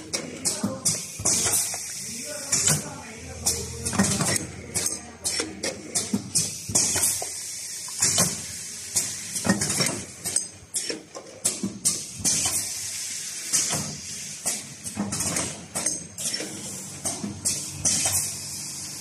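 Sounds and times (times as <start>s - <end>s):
plastic jars clattering on conveyor: 0.0s - 7.3s, 7.9s - 12.7s, 13.6s - 18.4s
air cylinders clacking: 0.0s - 12.8s, 13.5s - 18.5s.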